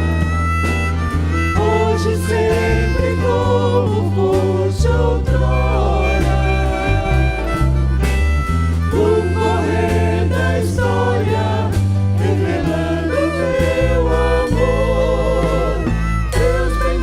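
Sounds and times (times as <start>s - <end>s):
band with bass and drums: 0.0s - 17.0s
voices singing with vibrato: 1.6s - 7.8s, 8.9s - 17.0s.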